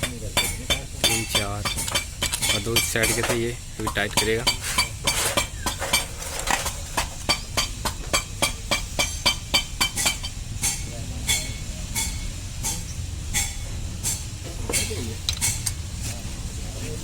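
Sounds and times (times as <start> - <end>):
wrench clicking: 0.0 - 15.8.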